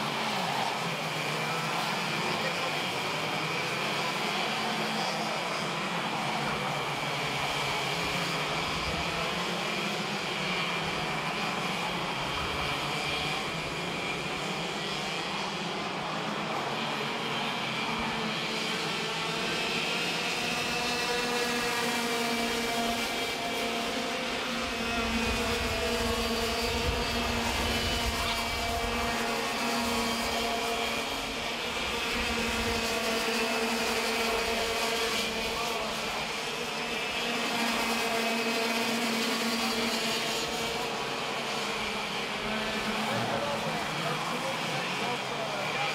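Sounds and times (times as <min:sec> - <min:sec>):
racing kart engines whining: 0:00.0 - 0:45.9.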